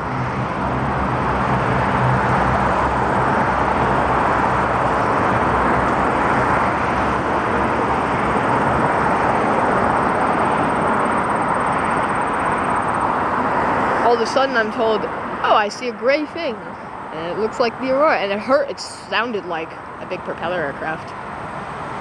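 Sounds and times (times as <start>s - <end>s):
aircraft engines running: 0.0s - 22.0s.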